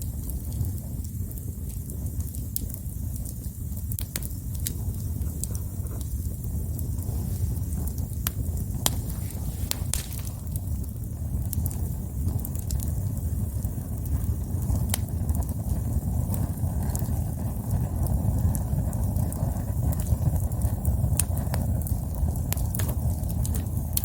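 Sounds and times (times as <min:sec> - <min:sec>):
campfire burning with crackles: 0:00.0 - 0:24.0.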